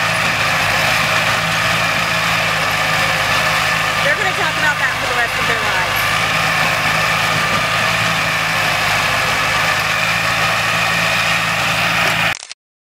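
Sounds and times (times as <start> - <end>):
loader engine running: 0.0 - 12.4.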